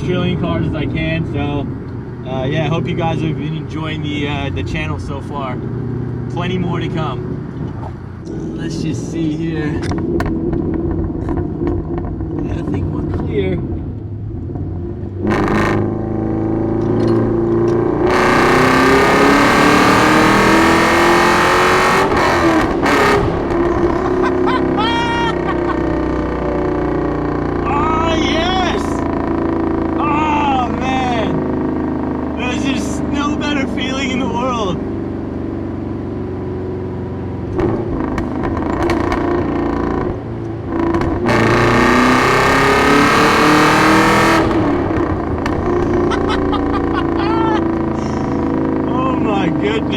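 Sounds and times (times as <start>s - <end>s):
exhaust popping: 0.0s - 49.9s
vee eight engine accelerating: 0.0s - 49.9s.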